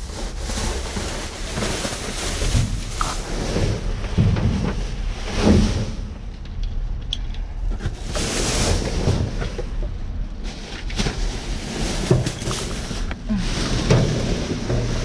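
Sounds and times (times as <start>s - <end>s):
plastic bags rustling: 0.0s - 6.3s, 7.8s - 15.0s
low wind rumble: 0.0s - 15.0s.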